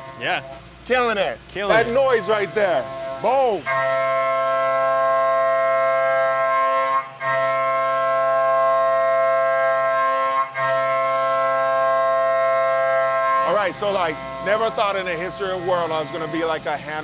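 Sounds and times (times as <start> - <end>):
end mill cutting metal whine: 0.0 - 17.0.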